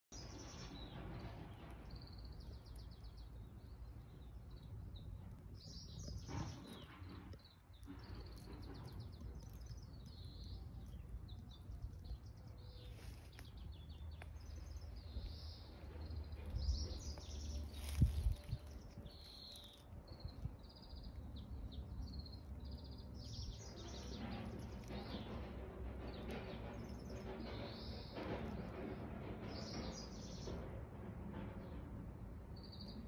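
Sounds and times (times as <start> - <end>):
small birds chirping: 0.1 - 30.8.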